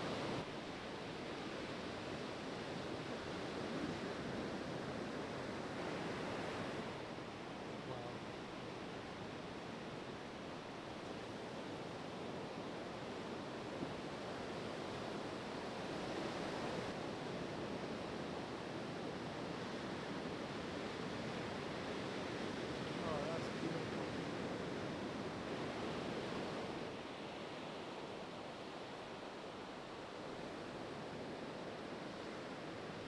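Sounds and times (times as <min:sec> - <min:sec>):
ocean surf breaking on beach: 0:00.0 - 0:33.0.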